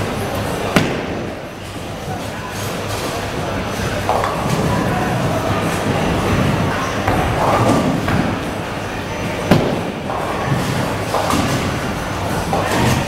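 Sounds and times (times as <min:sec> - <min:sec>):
busy bowling alley din: 0:00.0 - 0:13.0.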